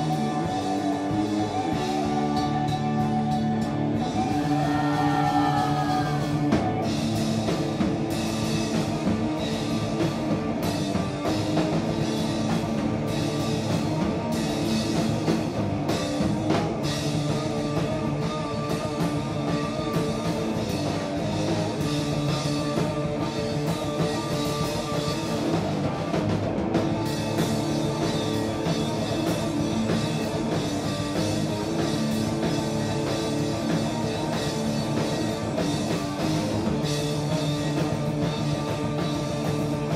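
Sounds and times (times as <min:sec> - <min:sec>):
distorted electric guitar: 0:00.0 - 0:39.9
drum kit played hard: 0:00.0 - 0:39.9.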